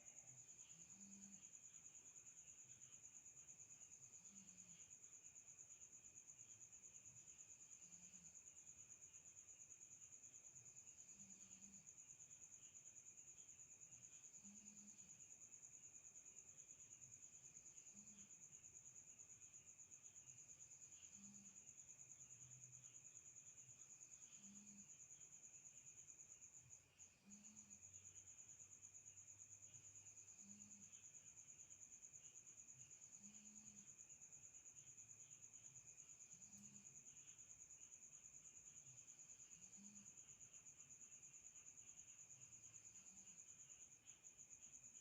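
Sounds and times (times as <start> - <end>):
high-pitched cricket trill: 0.0 - 45.0.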